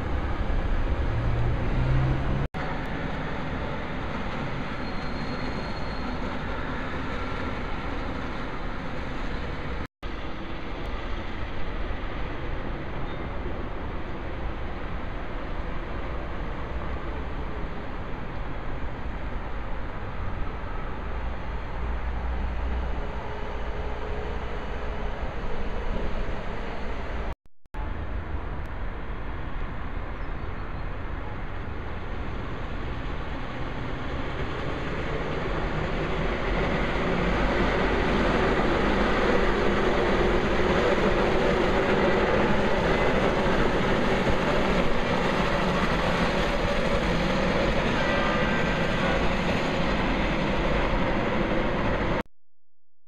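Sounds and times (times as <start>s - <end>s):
road traffic: 0.0s - 52.2s
tram passing: 0.0s - 52.2s.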